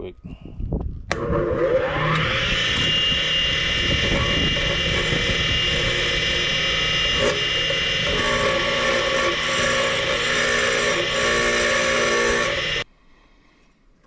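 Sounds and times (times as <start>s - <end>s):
power tool wire wheel whine: 1.1s - 12.9s.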